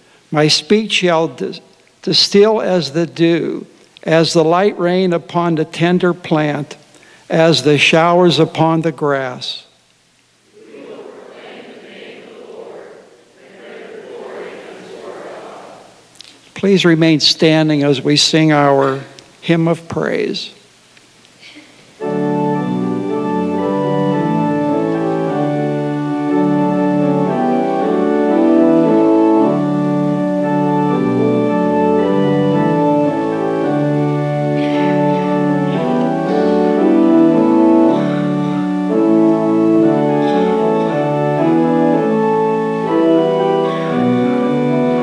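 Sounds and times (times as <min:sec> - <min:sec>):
church organ playing a hymn: 0:00.0 - 0:09.6, 0:16.6 - 0:20.4, 0:22.0 - 0:45.0.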